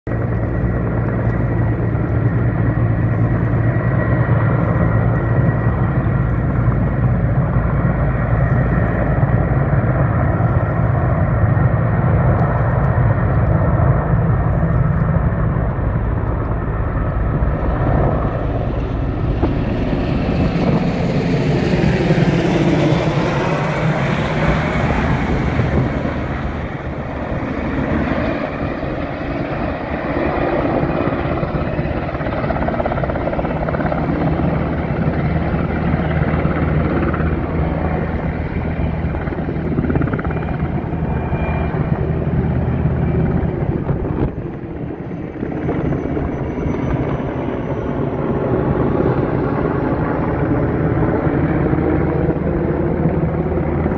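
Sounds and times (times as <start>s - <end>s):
helicopter rotor and turbine drone: 0.1s - 53.9s
second helicopter rushing rotor: 0.1s - 53.9s.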